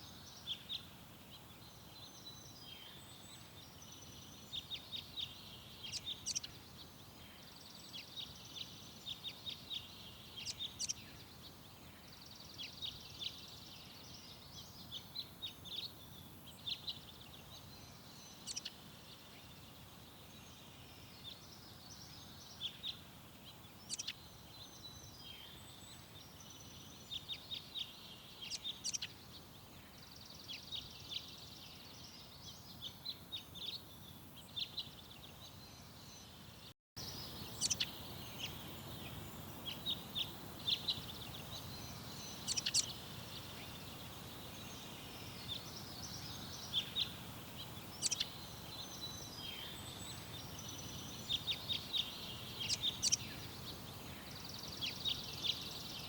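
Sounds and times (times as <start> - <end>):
outdoor background hiss: 0.0 - 56.0
songbirds chirping: 0.0 - 56.0.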